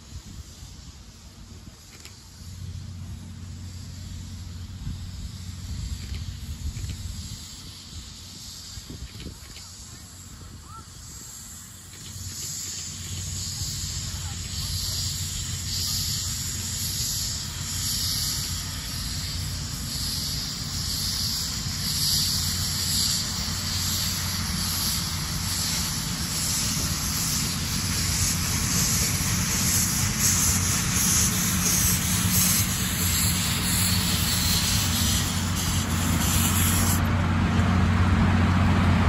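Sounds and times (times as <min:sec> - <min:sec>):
hissing steam: 0:00.0 - 0:39.0
steam locomotive approaching: 0:00.0 - 0:39.0.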